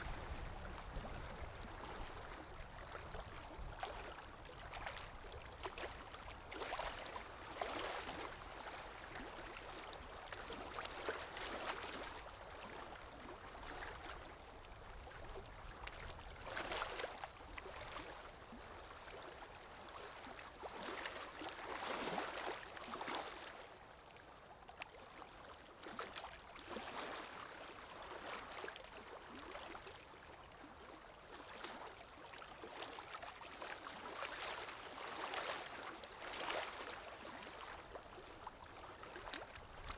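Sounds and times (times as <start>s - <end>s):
water sloshing and splashing: 0.0s - 24.2s, 24.8s - 39.9s.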